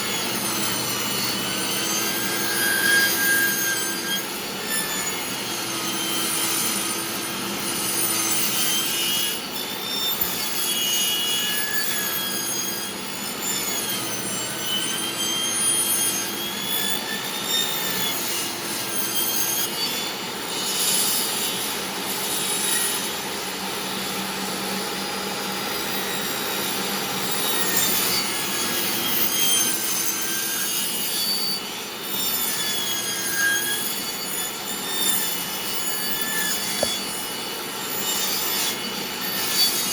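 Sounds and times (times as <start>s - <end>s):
table saw cutting wood: 0.0s - 39.9s.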